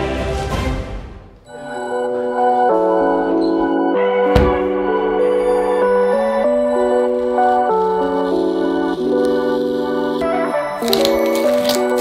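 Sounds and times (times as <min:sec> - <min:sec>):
soft ambient keyboard chords: 0:01.5 - 0:12.0.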